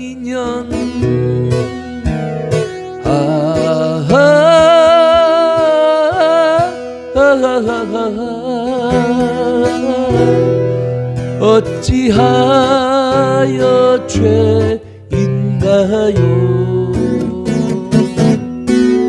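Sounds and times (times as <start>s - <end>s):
man singing: 0.0s - 19.0s
strummed acoustic guitar: 0.0s - 19.0s.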